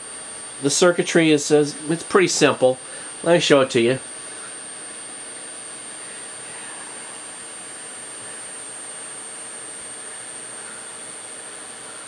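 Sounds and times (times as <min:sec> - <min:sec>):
cooling fan running: 0:00.0 - 0:12.0
faint high whine: 0:00.0 - 0:12.0.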